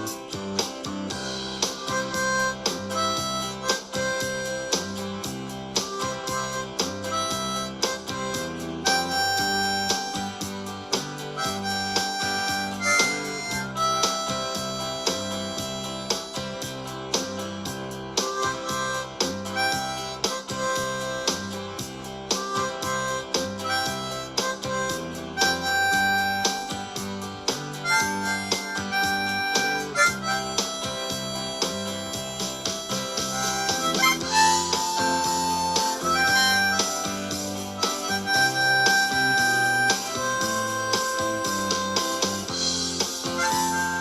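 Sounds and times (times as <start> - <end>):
harmonica solo with bending notes: 0.0 - 44.0
rhythmic accompaniment with steady beat: 0.0 - 44.0
strummed guitar: 0.0 - 44.0.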